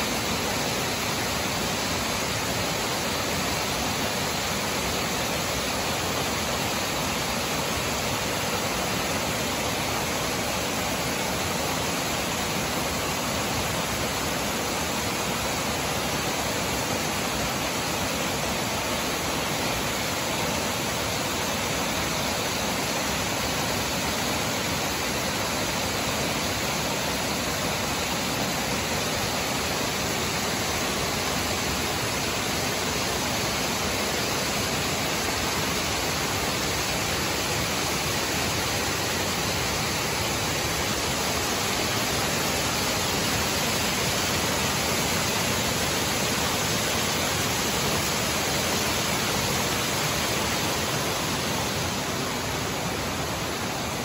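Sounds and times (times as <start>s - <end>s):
water rushing over stone weirs: 0.0s - 54.0s.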